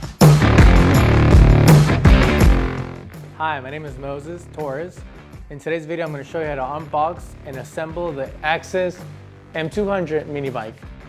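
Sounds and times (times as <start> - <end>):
music with driving beat and drums: 0.0 - 11.0.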